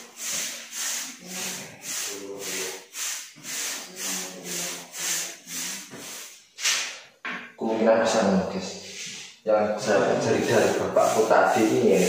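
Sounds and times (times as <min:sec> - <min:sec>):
paint brush rubbing on wall: 0:00.0 - 0:07.0, 0:08.6 - 0:12.0.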